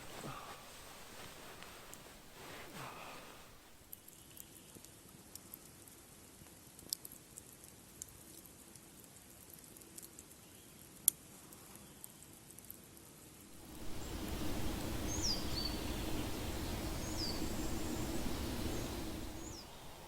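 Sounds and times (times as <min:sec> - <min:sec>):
faint clicks and ticks: 0:03.6 - 0:20.0.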